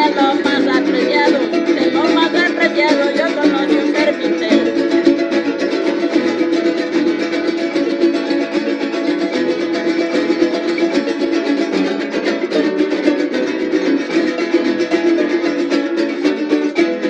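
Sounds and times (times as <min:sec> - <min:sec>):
plucked harp: 0:00.0 - 0:17.0
strummed guitars: 0:00.0 - 0:17.0.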